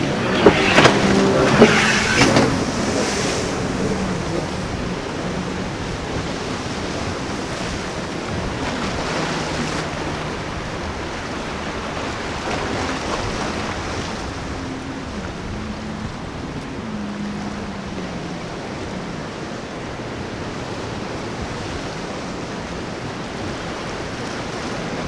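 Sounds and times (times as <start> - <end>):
boat engines droning: 0.0 - 25.0
surf: 0.0 - 25.0
wind: 0.0 - 25.0.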